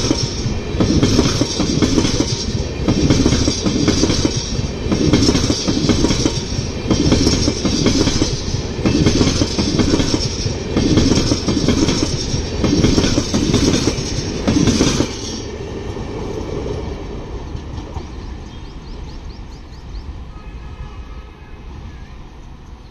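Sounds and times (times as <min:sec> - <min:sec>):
train wheels clattering over rails: 0:00.0 - 0:19.7.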